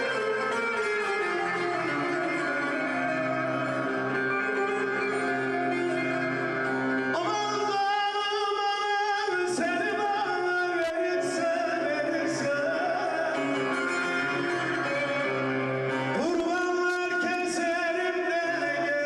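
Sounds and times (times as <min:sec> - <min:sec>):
long-necked lute accompaniment: 0:00.0 - 0:19.0.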